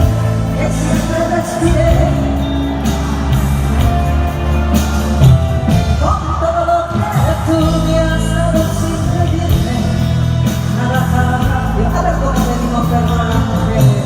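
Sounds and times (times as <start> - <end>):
live band playing pop ballad: 0.0 - 14.0.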